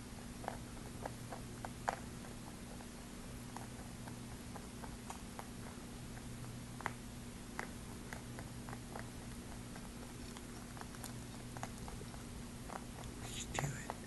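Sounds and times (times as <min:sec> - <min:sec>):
rabbit chewing and crunching: 0:00.0 - 0:14.0
steady low hum: 0:00.0 - 0:14.0.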